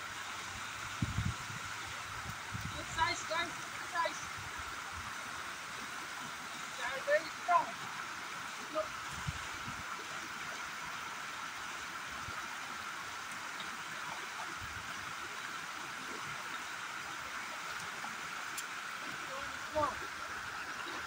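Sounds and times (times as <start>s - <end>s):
flowing river water: 0.0s - 21.0s.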